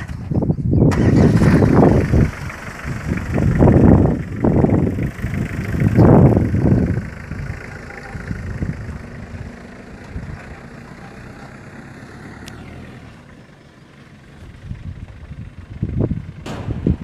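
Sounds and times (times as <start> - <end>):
pickup truck driving away: 0.9 - 17.0.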